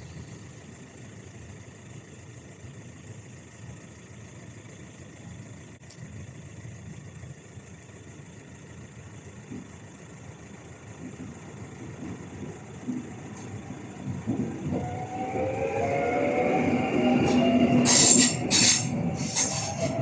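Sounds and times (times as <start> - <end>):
train rumble: 0.0 - 2.5, 4.6 - 20.0
whine of steady tones: 0.0 - 20.0.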